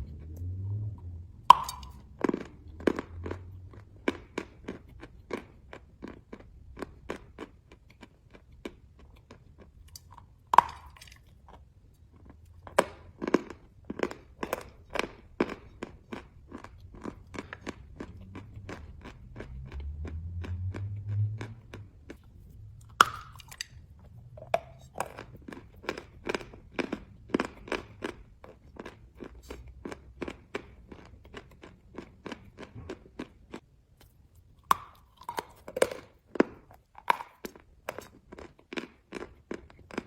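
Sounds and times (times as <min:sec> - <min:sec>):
chalk being chewed: 0:01.5 - 0:40.0.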